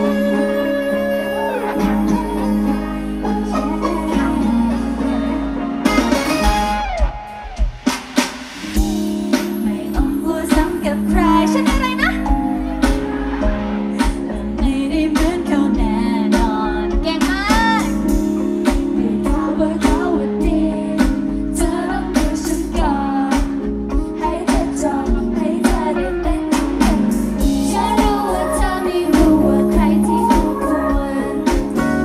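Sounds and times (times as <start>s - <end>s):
woman singing: 0.0s - 5.8s, 9.2s - 13.0s, 14.0s - 18.0s, 18.6s - 32.0s
pop song over speakers: 0.0s - 7.7s, 8.7s - 32.0s.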